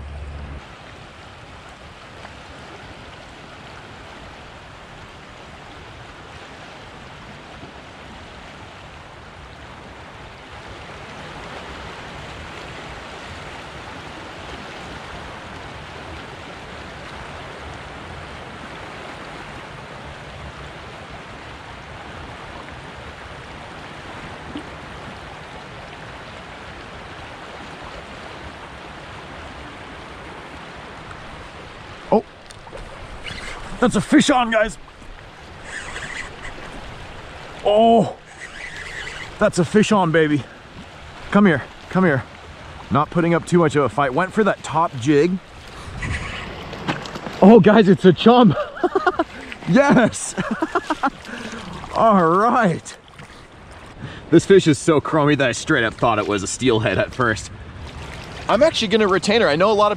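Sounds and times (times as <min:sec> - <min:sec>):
river water rushing over gravel: 0:00.0 - 0:59.9.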